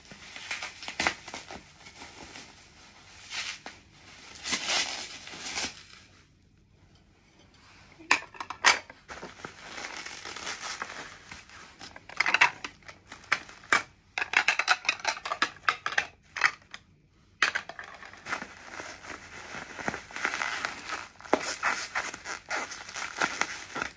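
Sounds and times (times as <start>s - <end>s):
bubble wrap and tape rustling: 0.0s - 6.4s, 7.6s - 16.8s, 17.4s - 23.9s.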